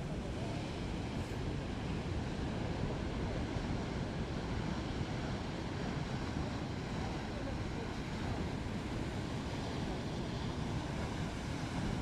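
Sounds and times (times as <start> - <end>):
rough sea: 0.0 - 12.0.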